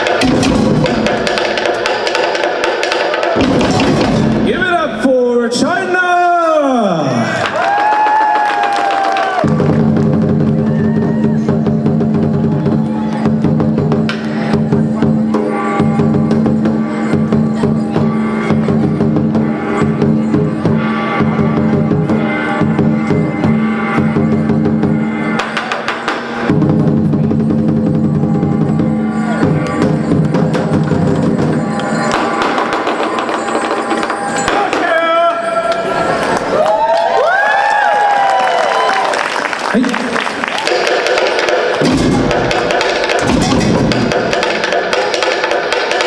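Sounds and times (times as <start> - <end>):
knocking percussion: 0.0 - 5.0, 7.4 - 36.5, 40.6 - 46.0.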